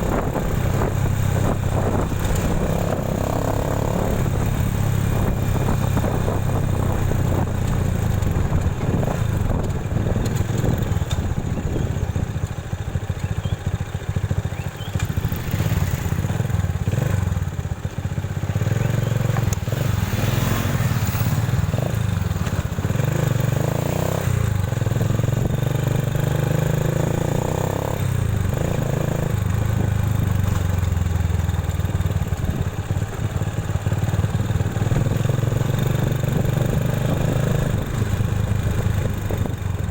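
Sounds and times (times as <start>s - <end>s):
motorcycle riding along road: 0.0s - 39.9s.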